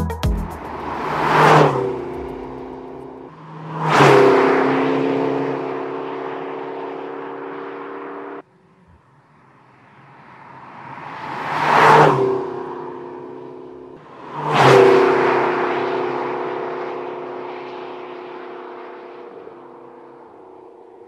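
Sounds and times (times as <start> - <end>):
sports car driving past: 0.6 - 21.0.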